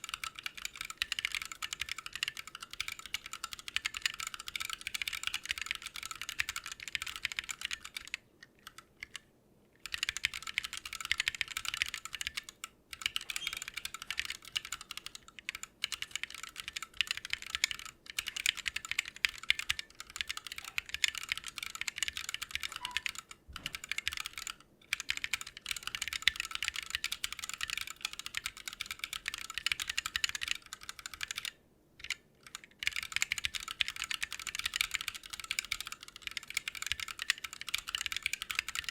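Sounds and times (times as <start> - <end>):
fast mechanical keyboard typing: 0.0 - 9.2, 9.8 - 38.9.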